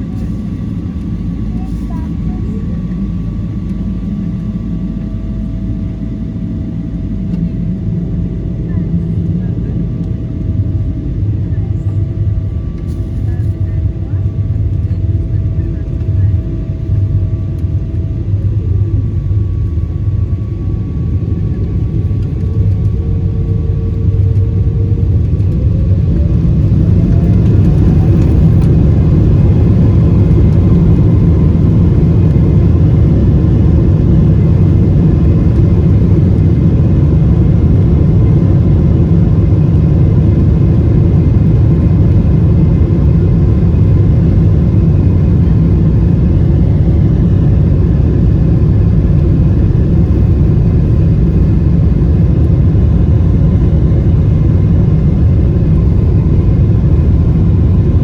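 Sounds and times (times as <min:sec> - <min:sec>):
airplane engines rumbling: 0:00.0 - 0:58.0
engine whine: 0:00.0 - 0:58.0.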